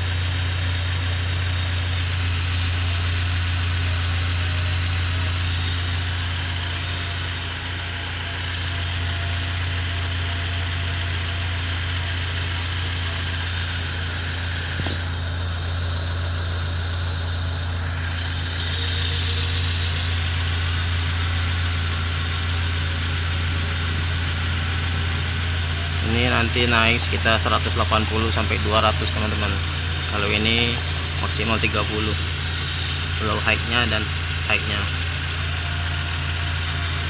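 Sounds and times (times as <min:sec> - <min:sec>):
car engine idling: 0:00.0 - 0:37.0
refrigerant hissing: 0:00.0 - 0:37.0.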